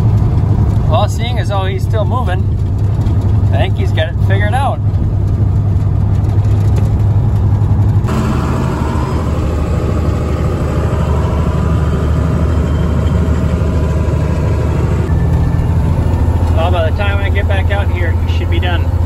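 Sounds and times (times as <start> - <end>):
rough machinery noise: 0.0 - 19.0
truck diesel engine running: 0.0 - 19.0.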